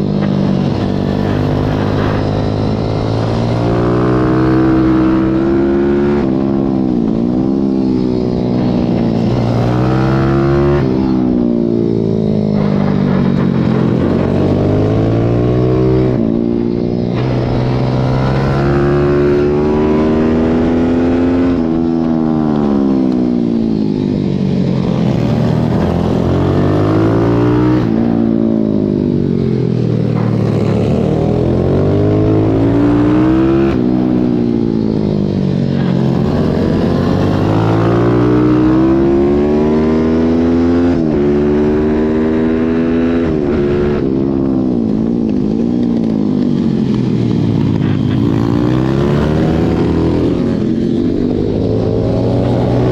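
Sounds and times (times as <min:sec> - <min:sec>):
pit bike engine revving: 0:00.5 - 0:21.8, 0:24.6 - 0:44.3, 0:46.0 - 0:52.9.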